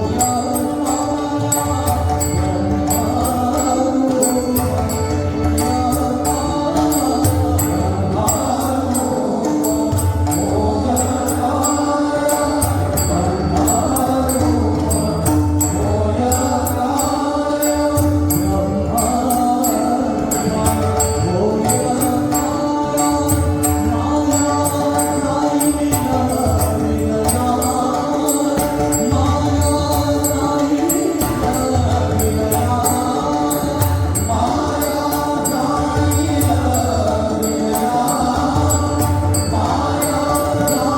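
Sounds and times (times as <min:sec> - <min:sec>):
hand drums playing rhythm: 0:00.0 - 0:40.9
man singing devotional song: 0:00.0 - 0:40.9.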